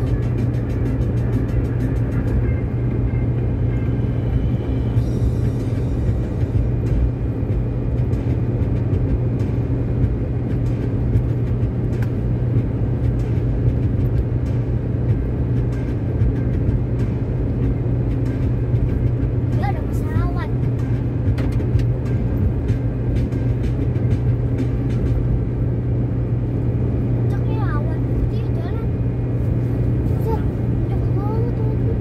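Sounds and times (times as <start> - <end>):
car engine droning: 0.0 - 32.0
tyres on asphalt: 0.0 - 32.0.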